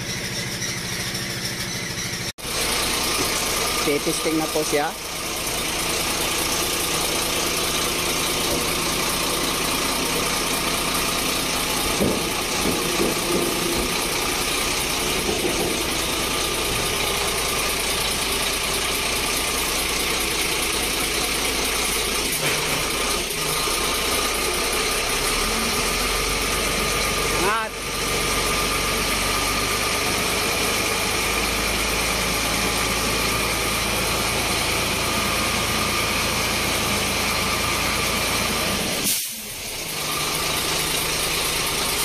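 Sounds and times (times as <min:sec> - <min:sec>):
diesel truck engine running: 0:00.0 - 0:42.0
hydraulic hoist raising and lowering: 0:00.0 - 0:42.0.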